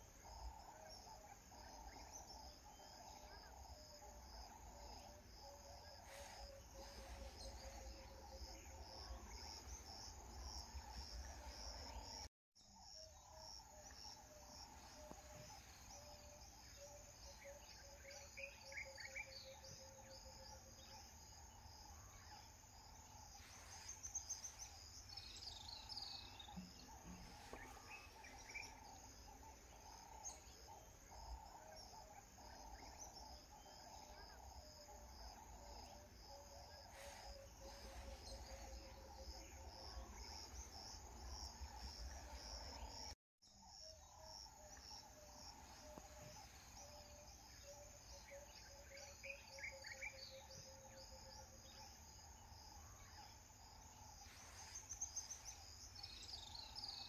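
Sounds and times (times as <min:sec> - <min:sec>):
insects chirring in trills: 0:00.0 - 0:57.0.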